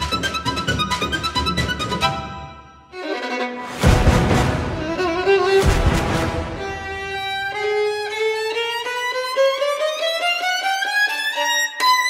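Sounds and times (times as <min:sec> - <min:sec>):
violin playing fast notes: 0:00.0 - 0:12.0.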